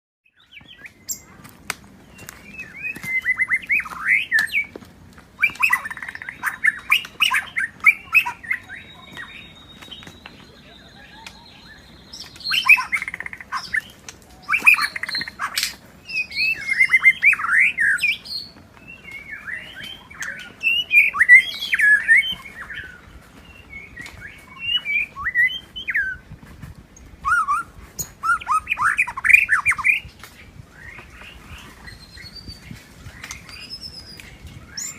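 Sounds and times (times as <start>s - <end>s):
bird singing whistles and chatters: 2.1s - 4.8s, 5.4s - 26.3s, 27.0s - 34.9s.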